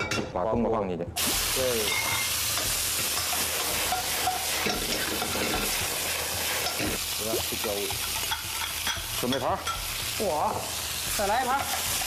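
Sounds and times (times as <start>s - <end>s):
vegetables sizzling in a wok: 1.2s - 12.0s.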